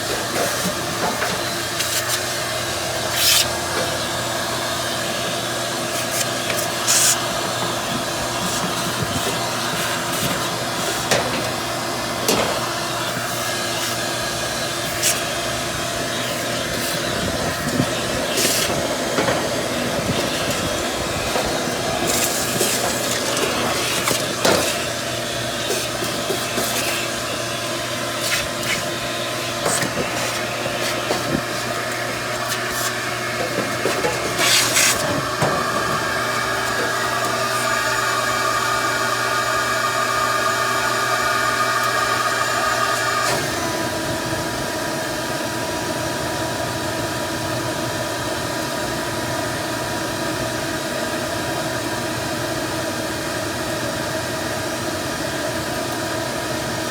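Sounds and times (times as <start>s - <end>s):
vacuum cleaner running: 0.0s - 56.9s.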